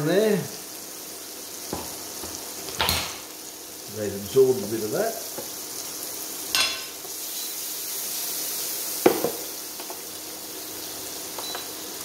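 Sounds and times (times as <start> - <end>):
mushrooms sizzling in a frying pan: 0.0 - 12.0.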